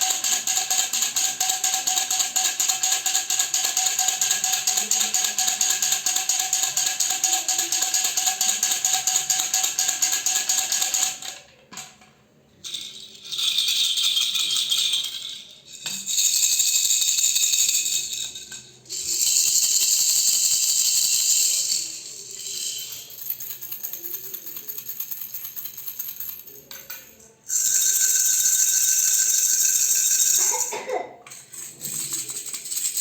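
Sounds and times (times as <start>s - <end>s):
toy baby rattles shaken: 0.0s - 11.4s, 12.6s - 33.0s.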